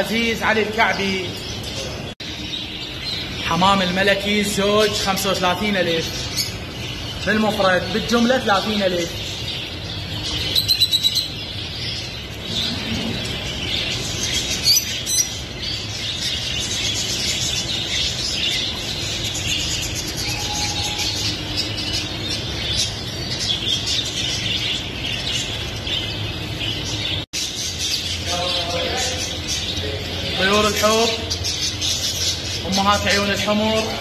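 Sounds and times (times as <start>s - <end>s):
songbirds chirping and twittering: 0.0s - 34.0s.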